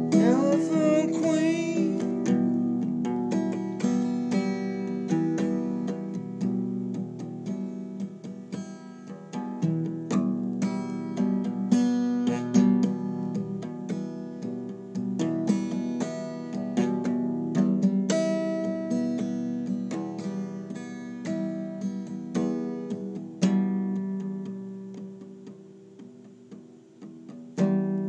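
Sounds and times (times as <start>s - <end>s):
acoustic guitar chords: 0.0s - 28.0s.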